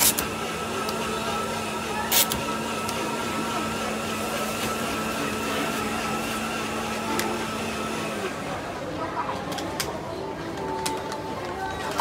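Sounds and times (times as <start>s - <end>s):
electrical hum of shop equipment: 0.0s - 12.0s.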